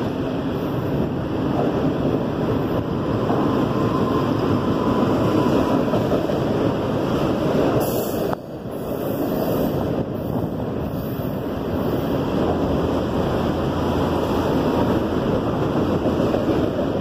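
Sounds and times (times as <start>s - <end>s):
train wheels rushing on rail: 0.0s - 17.0s.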